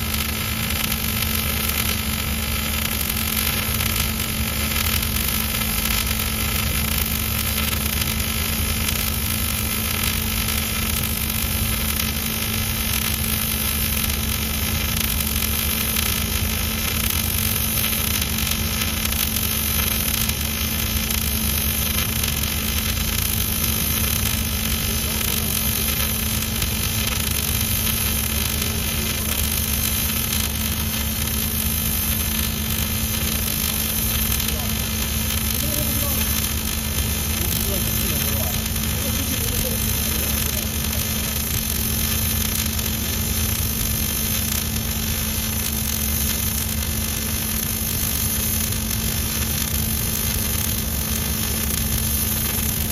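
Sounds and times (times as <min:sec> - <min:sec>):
welding arc hissing: 0:00.0 - 0:52.9.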